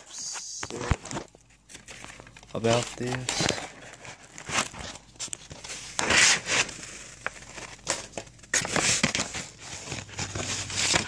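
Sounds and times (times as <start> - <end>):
packaging crinkling and rustling: 0.6 - 11.0.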